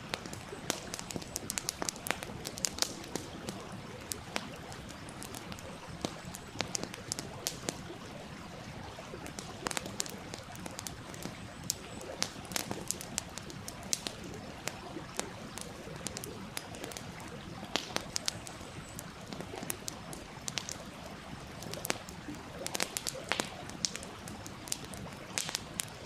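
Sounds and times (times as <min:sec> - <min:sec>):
stream flowing: 0:00.0 - 0:26.0
wood fire crackling and popping: 0:00.0 - 0:26.0.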